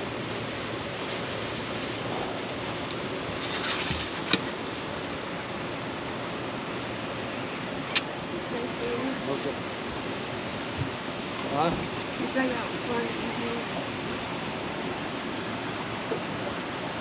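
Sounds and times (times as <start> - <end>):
river water rushing: 0.0 - 17.0
wind: 0.0 - 17.0.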